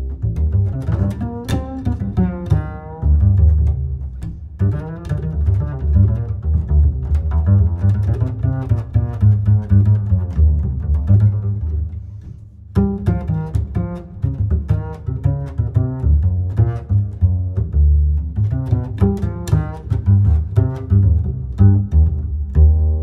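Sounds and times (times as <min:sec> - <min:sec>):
instrumental music with deep bass: 0:00.0 - 0:23.0.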